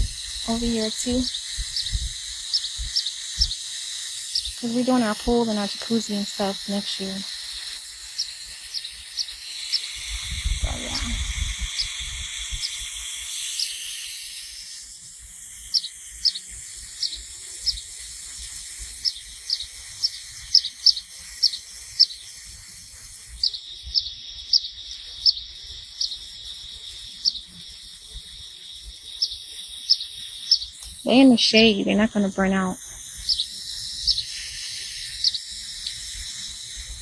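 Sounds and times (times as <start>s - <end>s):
small bird chirping: 0.0s - 14.8s, 15.6s - 37.0s
loud hiss: 0.0s - 23.5s, 29.6s - 37.0s
high insect drone: 0.0s - 37.0s.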